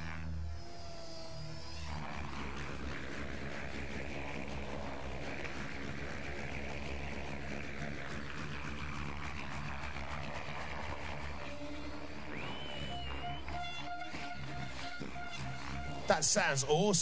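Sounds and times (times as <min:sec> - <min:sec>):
electric motor whine: 0:00.0 - 0:17.0
rotor blades whooshing: 0:00.0 - 0:17.0.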